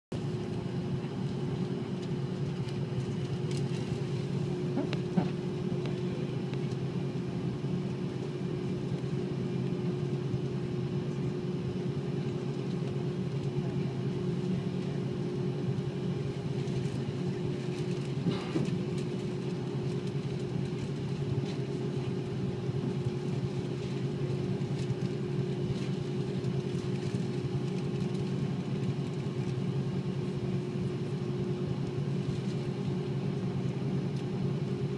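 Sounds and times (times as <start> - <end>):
cabin air noise: 0.2 - 34.9
jet engines droning: 0.2 - 34.9.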